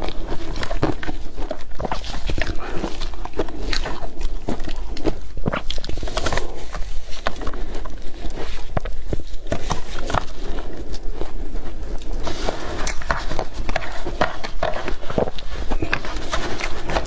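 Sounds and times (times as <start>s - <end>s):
crunchy chewing of ice: 0.0s - 17.0s.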